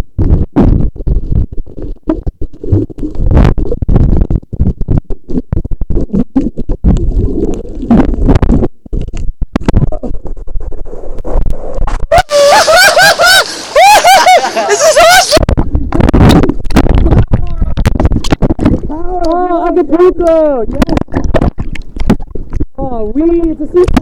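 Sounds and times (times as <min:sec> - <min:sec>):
muffled surf rumbling and sloshing: 0:00.0 - 0:24.0.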